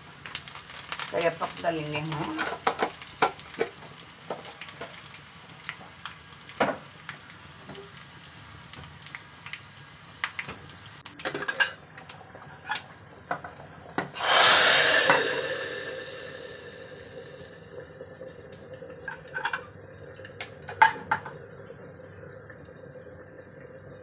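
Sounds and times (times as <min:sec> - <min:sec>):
loud sizzle: 0:00.0 - 0:11.2, 0:14.1 - 0:24.0
tempering frying in hot oil: 0:00.0 - 0:24.0.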